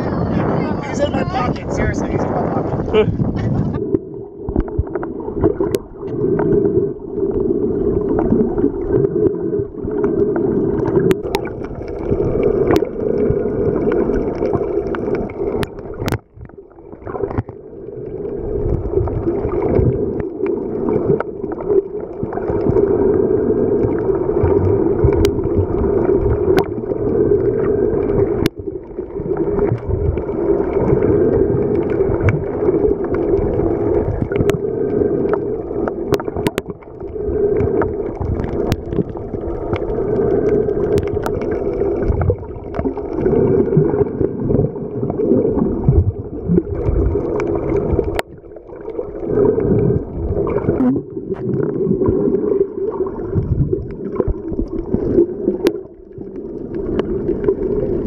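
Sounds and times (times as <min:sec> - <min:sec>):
muffled underwater rush: 0:00.0 - 0:58.0.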